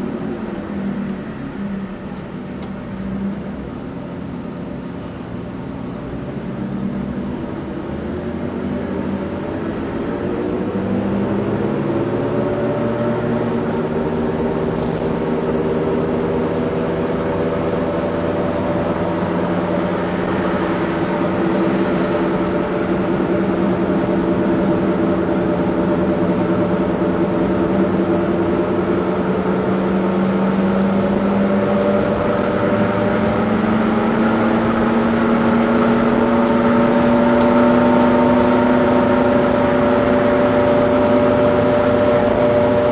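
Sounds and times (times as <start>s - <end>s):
vehicle engine accelerating: 0.0s - 42.9s.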